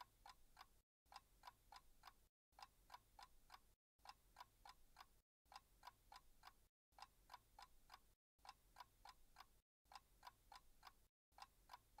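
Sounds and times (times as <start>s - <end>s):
faint clock ticking: 0.0s - 12.0s.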